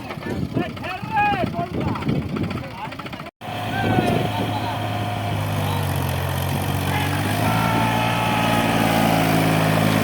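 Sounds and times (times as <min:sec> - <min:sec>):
diesel engine running: 0:00.1 - 0:10.0.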